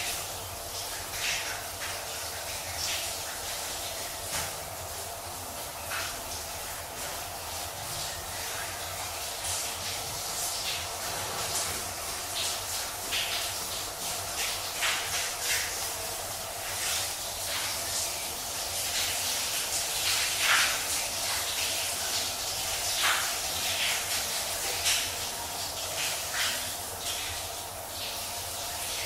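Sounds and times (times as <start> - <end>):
shower water spraying: 0.0 - 29.0
water splashes: 0.0 - 29.0.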